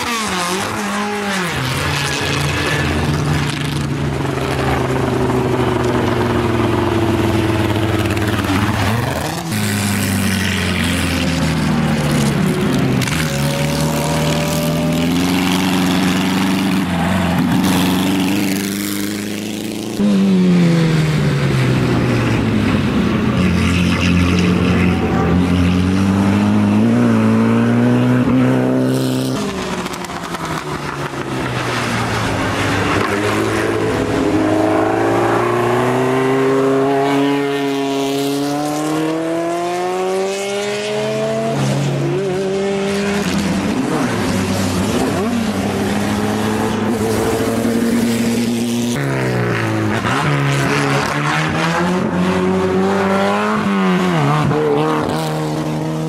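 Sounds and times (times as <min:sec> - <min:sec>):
racing car engines accelerating: 0:00.0 - 0:56.0.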